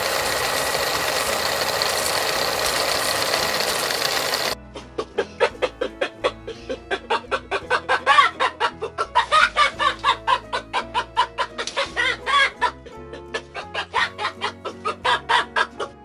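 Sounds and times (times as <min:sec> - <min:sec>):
background music: 0:01.1 - 0:16.0.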